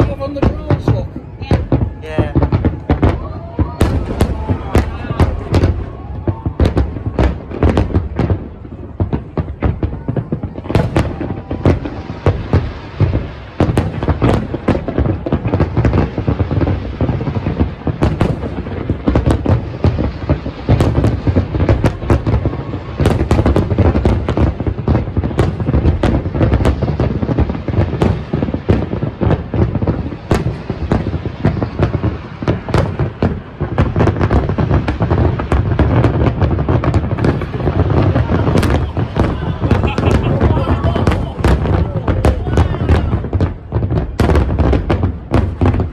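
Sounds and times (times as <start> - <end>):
fireworks booming and crackling: 0.0 - 45.9.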